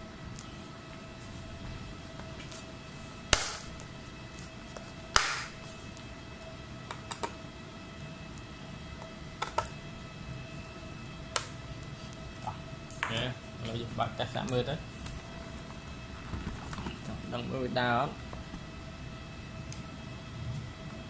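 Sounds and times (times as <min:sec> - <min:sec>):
faint electrical whine: 0:00.0 - 0:21.0.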